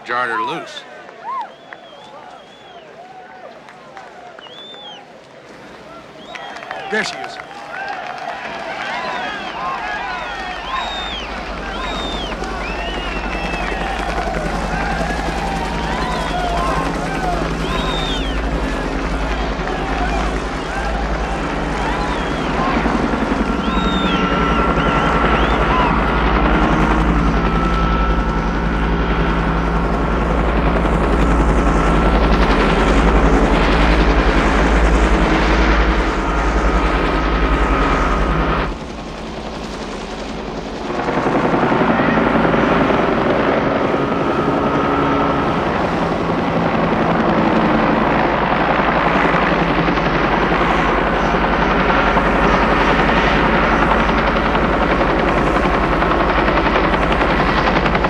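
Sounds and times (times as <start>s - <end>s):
helicopter rotor beating: 0.0s - 0.9s, 6.1s - 58.0s.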